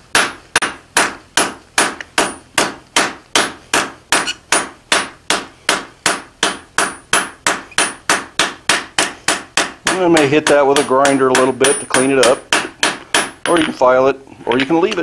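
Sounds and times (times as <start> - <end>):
hammer striking steel on anvil: 0.1 - 13.8.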